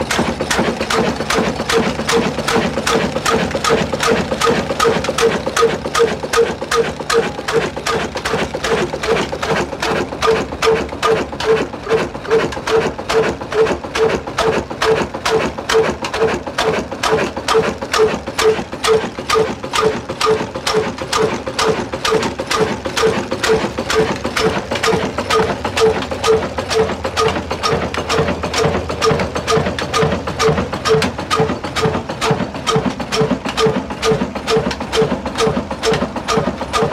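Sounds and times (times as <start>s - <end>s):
diesel engine knocking slowly: 0.0s - 36.9s.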